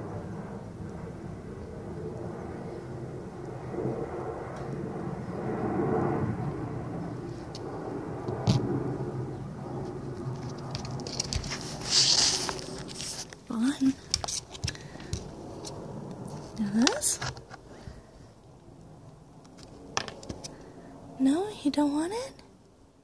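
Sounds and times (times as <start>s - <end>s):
low engine drone: 0.0s - 21.5s.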